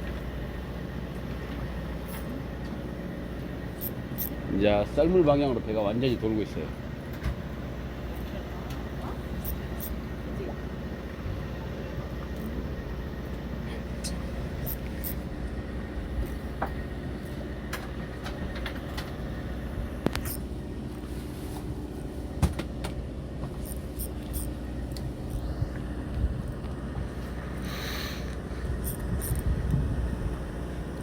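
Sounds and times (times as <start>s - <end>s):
boat machinery rumbling: 0.0s - 31.0s.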